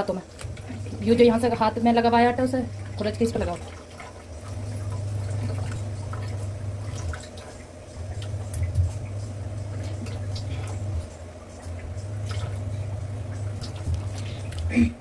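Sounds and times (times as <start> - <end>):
steady low hum: 0.0 - 15.0
water dripping and splashing: 0.0 - 15.0.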